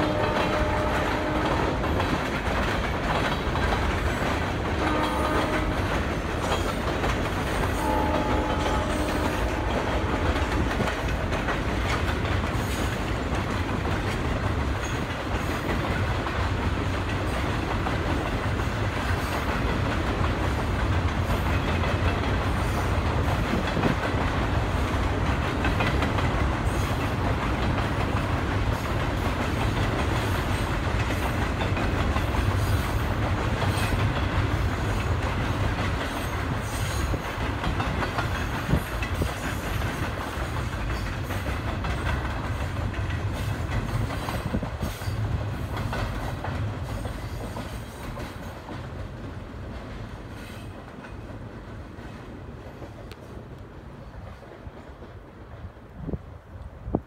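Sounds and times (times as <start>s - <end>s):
steel wheels clattering on rails: 0.0s - 56.1s
freight train rumbling past: 0.0s - 57.0s.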